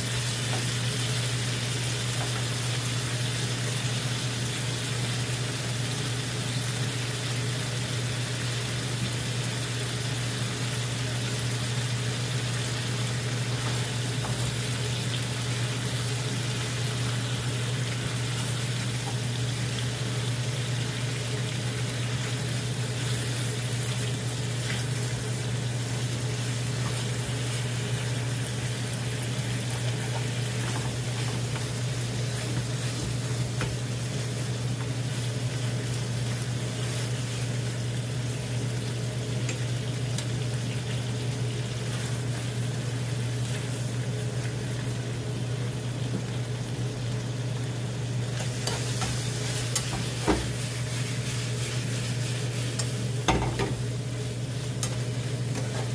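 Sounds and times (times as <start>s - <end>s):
food sizzling in a frying pan: 0.0s - 55.9s.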